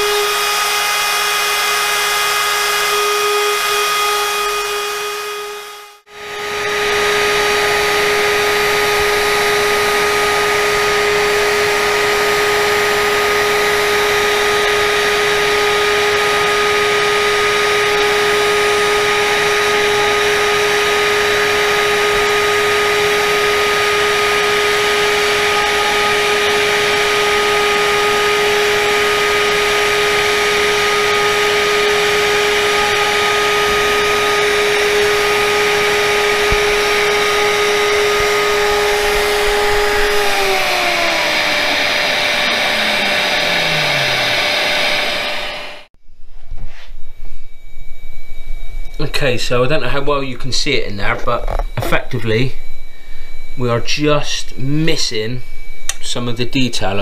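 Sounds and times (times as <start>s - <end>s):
router spindle whining: 0.0s - 46.0s, 48.8s - 57.0s.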